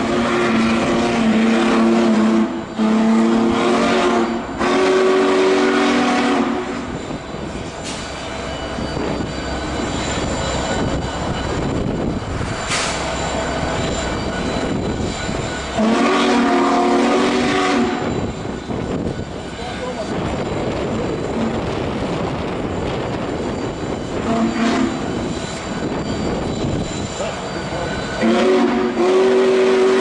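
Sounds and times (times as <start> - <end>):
steam locomotive chime whistle: 0.0 - 30.0
steam rushing: 0.0 - 30.0.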